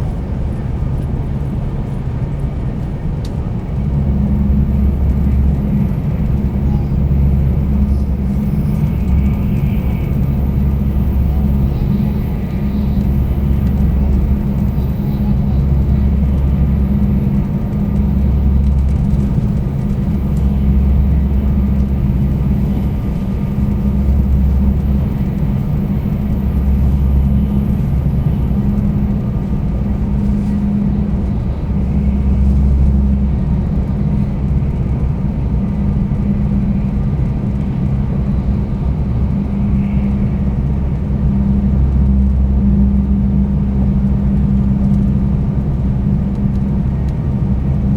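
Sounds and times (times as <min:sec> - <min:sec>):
train cabin deep rumble: 0:00.0 - 0:47.9.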